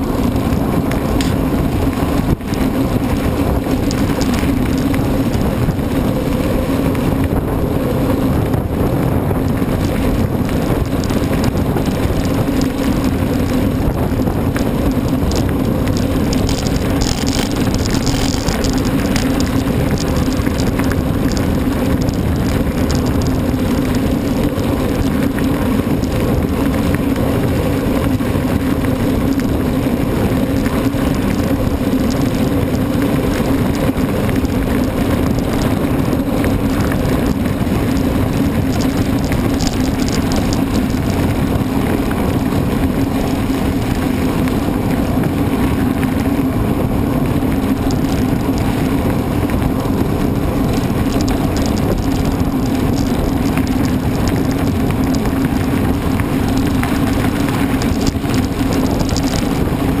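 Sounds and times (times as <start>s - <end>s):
bike tyres rumbling: 0.0s - 60.0s
wind noise: 0.0s - 60.0s.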